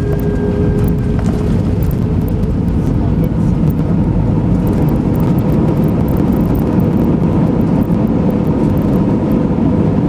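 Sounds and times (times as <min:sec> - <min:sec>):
rumble of engines and wheels: 0:00.0 - 0:10.0.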